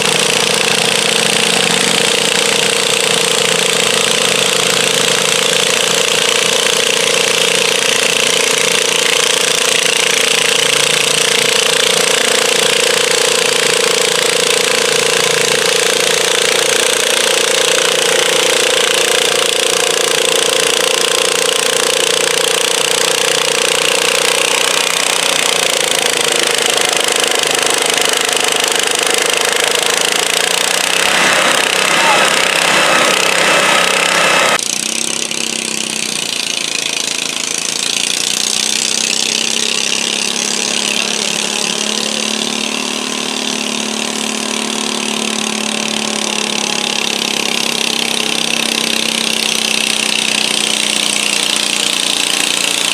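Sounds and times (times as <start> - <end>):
tractor engine running with rattle: 0.0 - 52.9.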